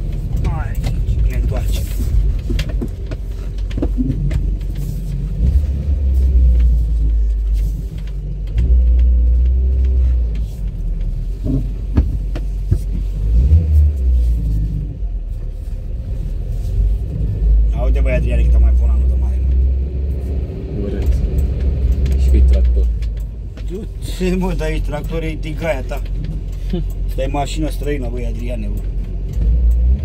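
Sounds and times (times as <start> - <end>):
car engine running: 0.0 - 30.0
road rumble: 0.0 - 30.0.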